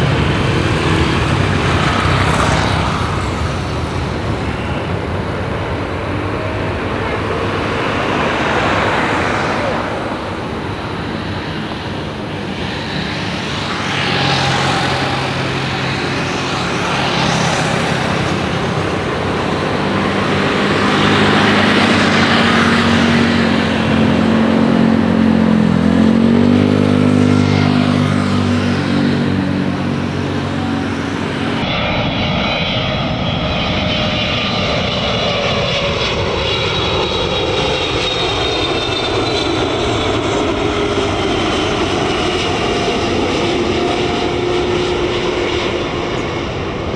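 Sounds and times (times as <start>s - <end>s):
jet engines rushing and droning: 0.0s - 46.9s
whining tones gliding downward: 0.0s - 46.9s.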